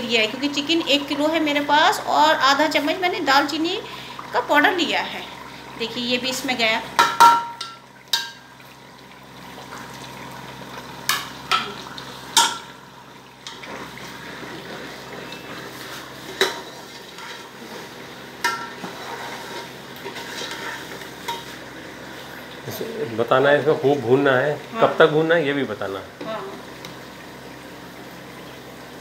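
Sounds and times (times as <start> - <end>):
food sizzling in pot: 0.0 - 29.0.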